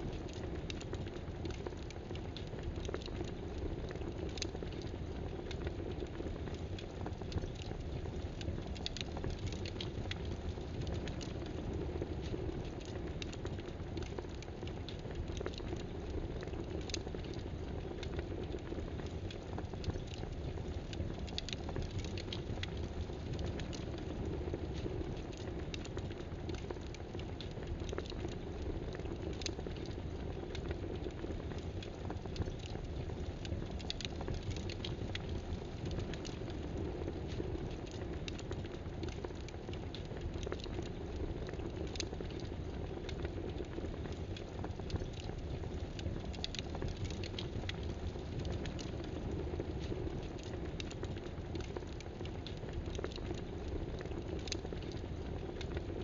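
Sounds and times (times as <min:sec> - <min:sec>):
low hiss and rumble: 0:00.0 - 0:56.0
small clicks and crackles: 0:00.0 - 0:56.0.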